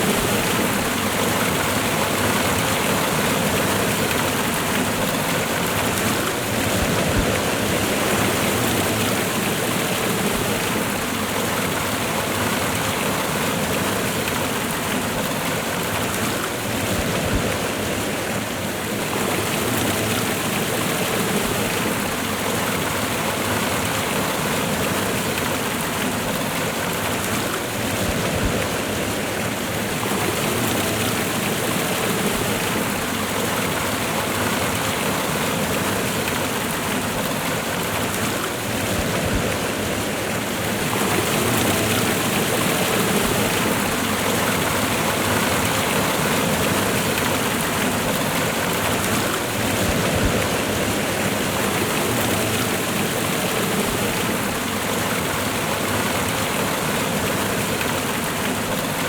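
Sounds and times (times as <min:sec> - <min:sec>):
waterfall and river rushing: 0:00.0 - 0:59.0.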